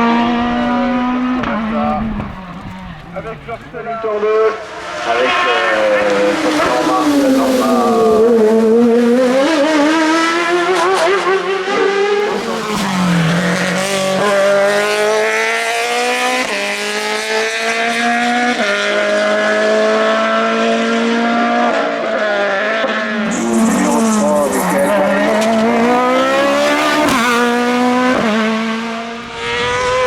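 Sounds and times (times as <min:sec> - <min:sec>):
race car engine accelerating: 0:00.0 - 0:30.0.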